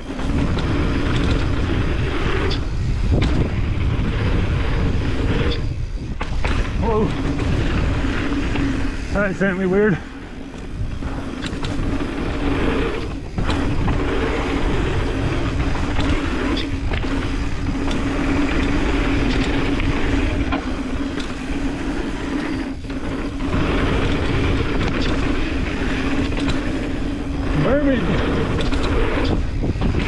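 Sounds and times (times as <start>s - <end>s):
bike clicks and knocks: 0.0s - 9.0s, 10.4s - 30.0s
bicycle freehub buzzing: 0.0s - 30.0s
wind on microphone: 0.0s - 30.0s.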